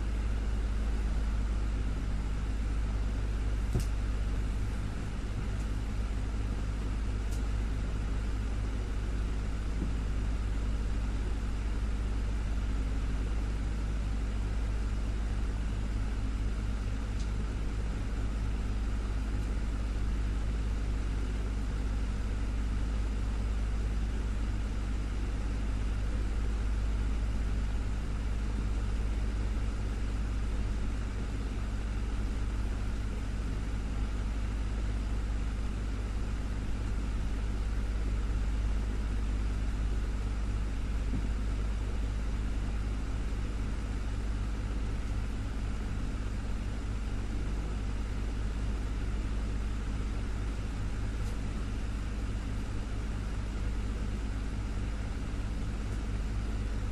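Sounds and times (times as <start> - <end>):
desk fan humming: 0.0 - 56.9.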